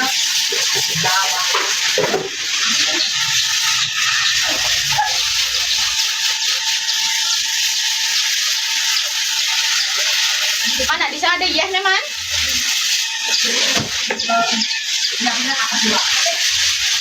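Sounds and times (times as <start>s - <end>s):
water spraying onto motorbike: 0.0s - 17.0s.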